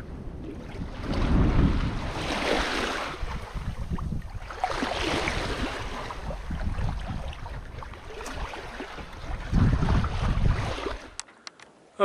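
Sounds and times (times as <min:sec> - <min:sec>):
water rushing along boat bow: 0:00.0 - 0:11.2
wind buffeting microphone: 0:00.0 - 0:11.2.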